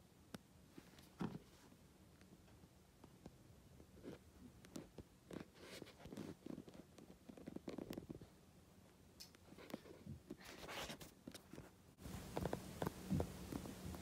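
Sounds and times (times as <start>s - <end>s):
clicks and rustles on carpet: 0.7s - 8.4s, 9.3s - 14.0s.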